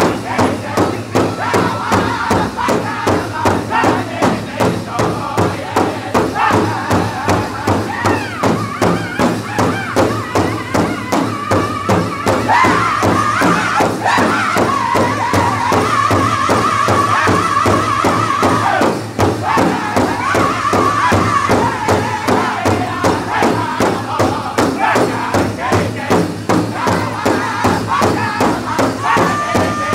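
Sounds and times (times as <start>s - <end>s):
group singing high-pitched in unison: 0.0s - 29.9s
large drum steady fast beat: 0.0s - 29.9s.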